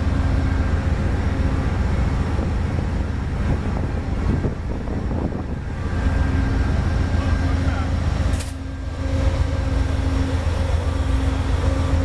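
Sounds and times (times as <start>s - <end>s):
freight train rolling past: 0.0s - 12.0s
locomotive engine rumbling: 0.0s - 12.0s.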